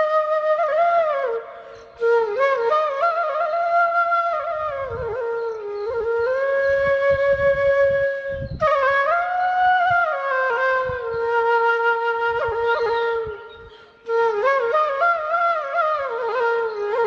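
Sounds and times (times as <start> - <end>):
slow flute-like melody: 0.0 - 17.0.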